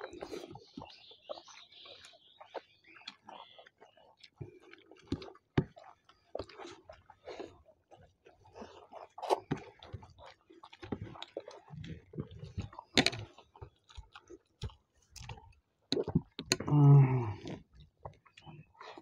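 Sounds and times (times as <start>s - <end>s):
people chewing and smacking: 0.0s - 19.0s.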